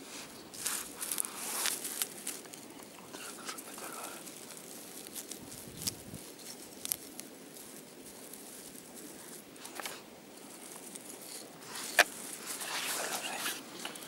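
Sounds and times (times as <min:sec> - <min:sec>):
hand rustling through grass: 0:00.0 - 0:14.0.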